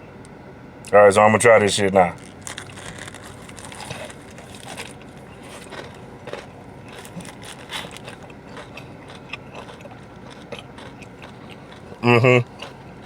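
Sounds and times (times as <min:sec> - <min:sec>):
steady background hum: 0:00.0 - 0:13.0
crunchy chewing: 0:02.1 - 0:13.0.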